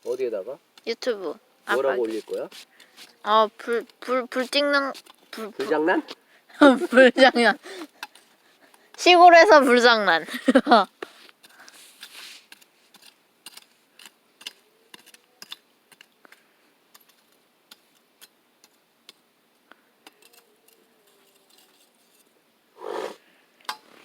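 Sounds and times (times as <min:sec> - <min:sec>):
open fire crackling: 0:00.0 - 0:24.0.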